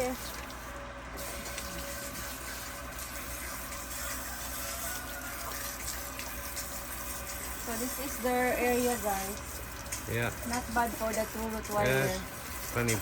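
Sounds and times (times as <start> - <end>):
water spraying onto concrete: 0.0 - 13.0.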